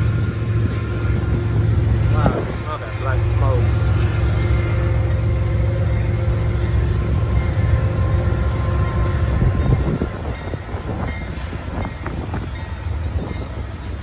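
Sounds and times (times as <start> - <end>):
freight train rumbling past: 0.0 - 14.0
wheels clattering on rail joints: 0.0 - 14.0.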